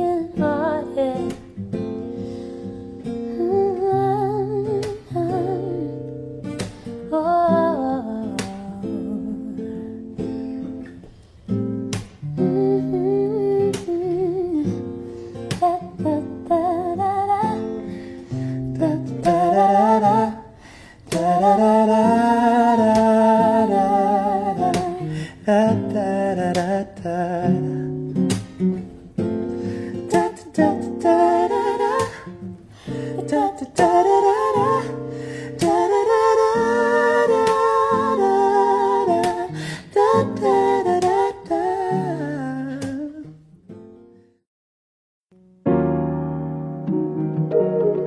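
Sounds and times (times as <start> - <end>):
wordless vocal melody: 0.0 - 11.1, 12.2 - 28.5, 29.2 - 43.4
acoustic guitar song: 0.0 - 44.4, 45.4 - 48.0.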